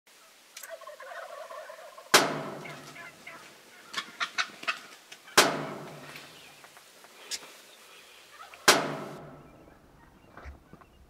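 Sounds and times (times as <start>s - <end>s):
short sharp turkey calls: 0.1s - 11.0s
soft turkey calls: 0.1s - 11.0s
turkey gobbles: 0.2s - 11.0s.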